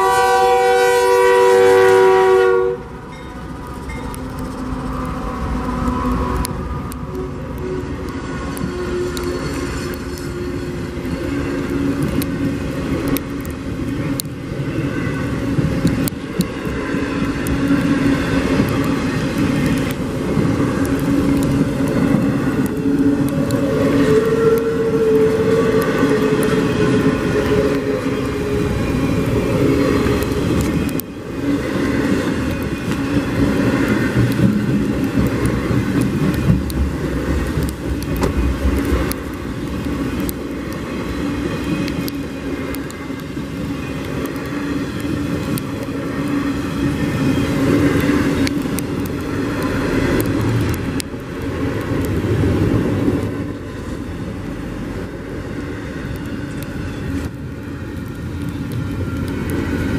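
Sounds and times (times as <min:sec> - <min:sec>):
steel wheels rumbling on rail: 0:00.0 - 0:59.9
wheels clicking over rail joints: 0:03.0 - 0:59.9.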